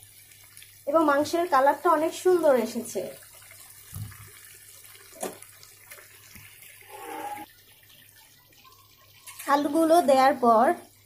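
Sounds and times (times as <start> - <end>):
curry simmering and bubbling: 0.0 - 11.0.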